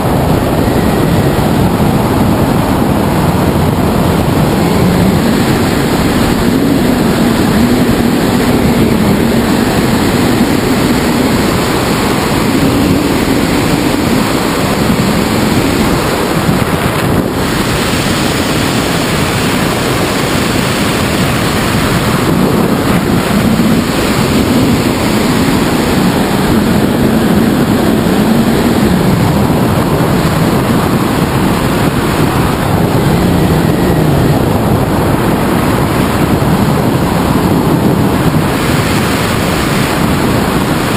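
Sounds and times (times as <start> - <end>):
airflow rushing over microphone: 0.0 - 40.9.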